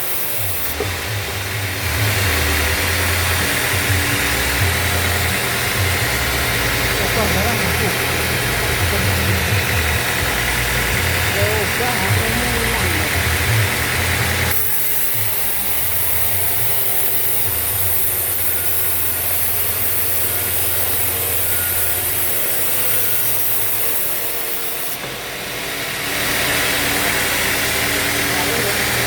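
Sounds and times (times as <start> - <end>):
machine low hum: 0.0 - 28.6
saw blade cutting log: 0.0 - 29.0.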